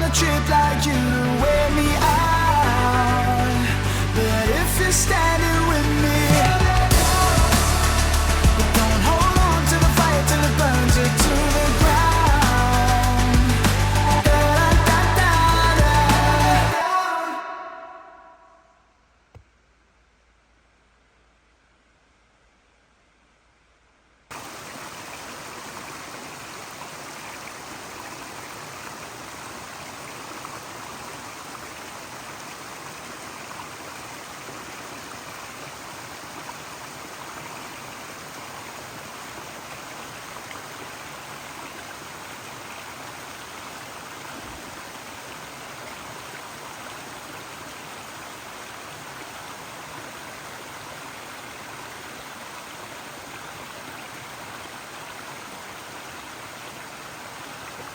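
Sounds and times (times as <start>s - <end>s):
stream water rushing: 0.0s - 17.7s, 24.3s - 57.9s.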